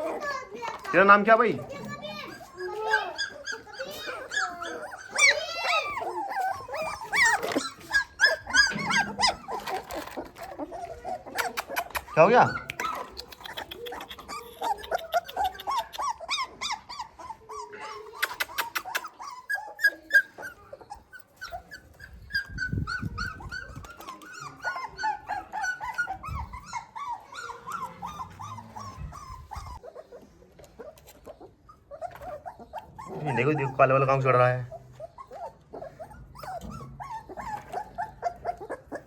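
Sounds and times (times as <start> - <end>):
puppy whimpering: 0.0 - 39.0.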